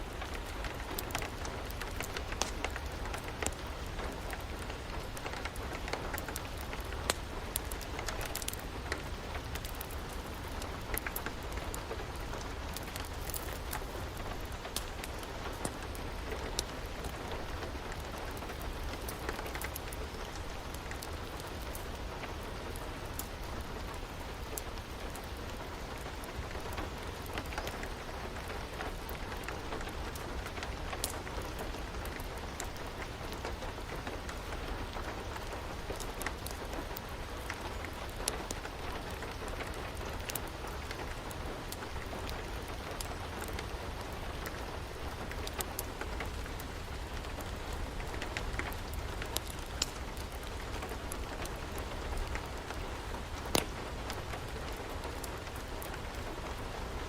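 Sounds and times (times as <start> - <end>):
steady rain: 0.0 - 57.0
wood fire popping and crackling: 0.0 - 57.0.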